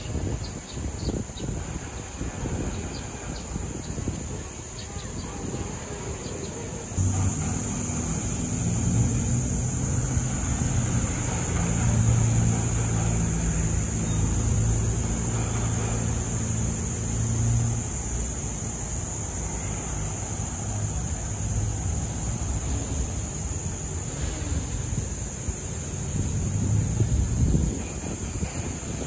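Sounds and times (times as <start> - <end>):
constant high hiss: 0.0 - 29.0
vehicle engine humming: 5.3 - 29.0.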